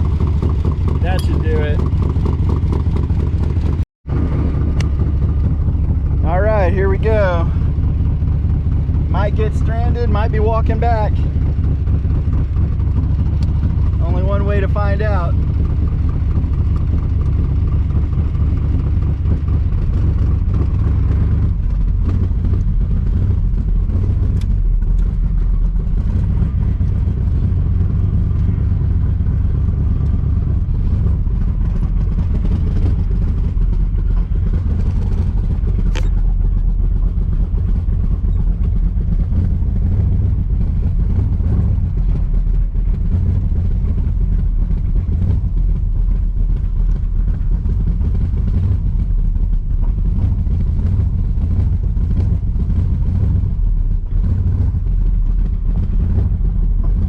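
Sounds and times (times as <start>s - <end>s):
car exhaust low note: 0.0s - 57.0s.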